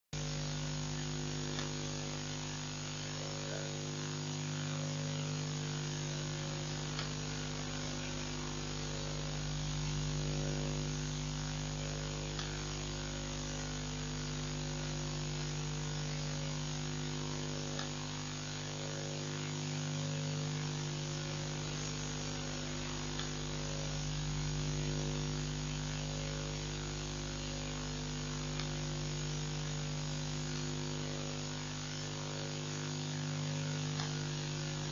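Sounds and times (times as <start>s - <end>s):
electrical hum with hiss: 0.2s - 34.9s.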